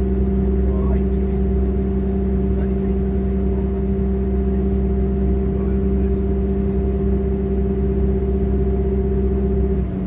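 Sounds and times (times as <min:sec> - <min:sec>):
train diesel engine drone: 0:00.0 - 0:10.0.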